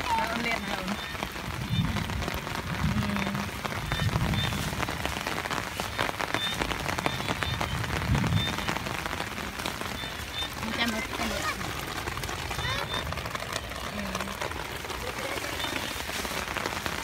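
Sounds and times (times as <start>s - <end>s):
rain on grass and puddles: 0.0s - 17.0s.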